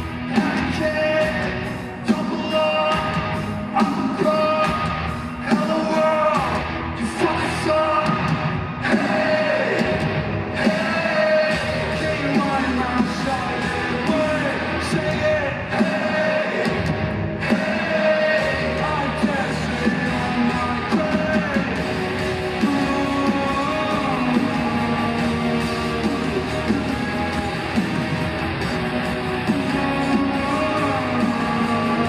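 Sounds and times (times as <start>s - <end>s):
distorted electric guitar: 0.0s - 32.0s
drums: 0.0s - 32.0s
person singing or shouting: 0.3s - 21.9s, 22.5s - 32.0s.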